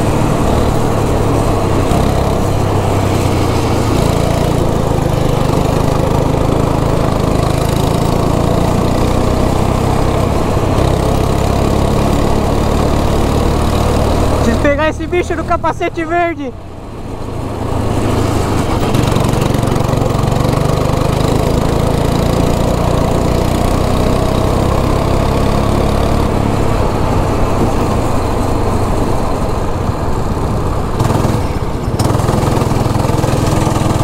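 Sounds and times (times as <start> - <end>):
go-kart engine running: 0.0 - 34.0.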